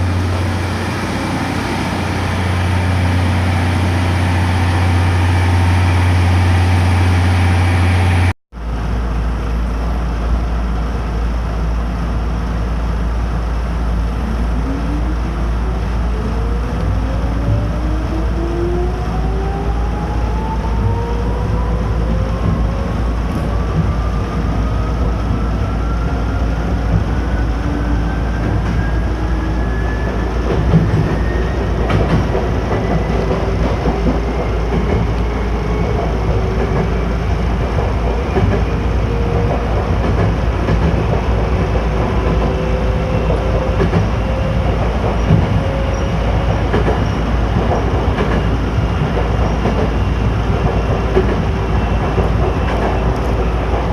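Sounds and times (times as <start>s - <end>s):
train rumble inside carriage: 0.0s - 53.9s.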